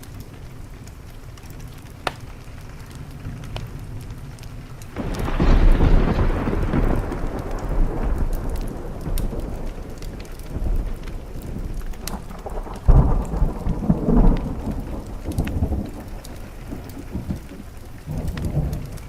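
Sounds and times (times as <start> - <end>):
rain against a window: 0.0 - 19.0
thunder rumbling: 0.0 - 19.0
wood fire crackling: 0.0 - 19.0.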